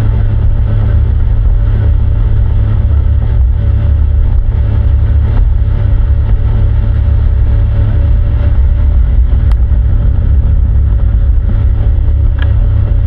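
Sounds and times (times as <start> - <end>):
motorboat engine running: 0.0 - 13.0.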